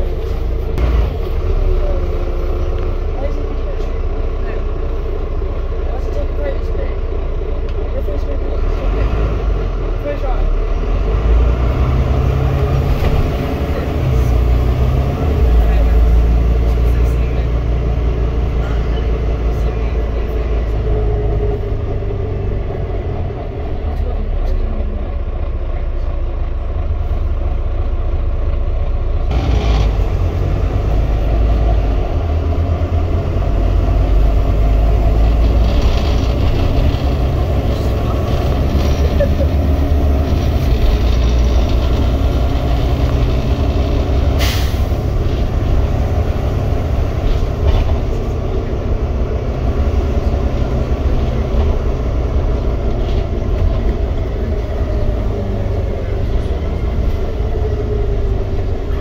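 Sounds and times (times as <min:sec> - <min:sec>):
bus diesel engine drone: 0:00.0 - 0:59.0
road noise: 0:00.0 - 0:59.0.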